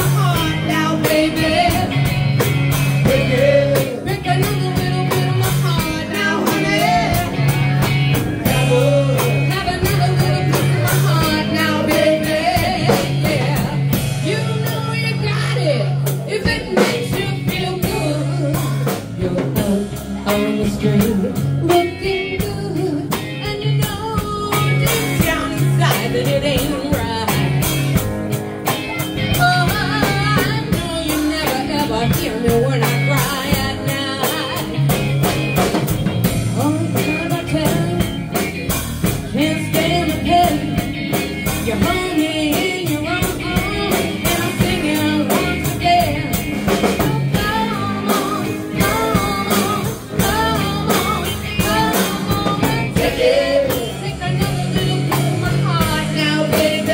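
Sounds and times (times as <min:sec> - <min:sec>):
woman singing: 0:00.0 - 0:28.0, 0:28.6 - 0:56.9
drum kit beat: 0:00.0 - 0:56.9
electric bass: 0:00.0 - 0:56.9
electric guitar: 0:00.0 - 0:56.9.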